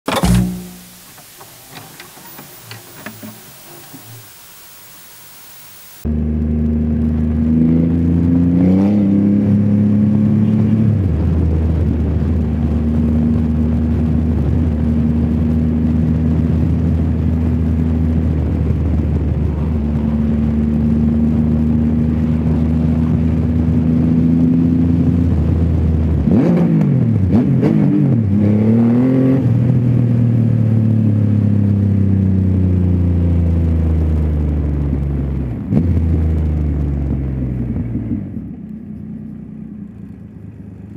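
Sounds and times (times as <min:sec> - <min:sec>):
motorcycle engine revving: 0:00.1 - 0:04.3, 0:06.0 - 0:40.9.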